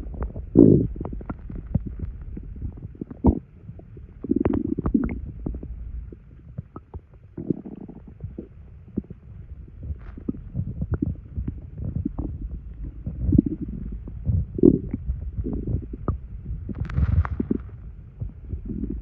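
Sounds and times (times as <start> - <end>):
stomach gurgling and rumbling: 0.0 - 19.0.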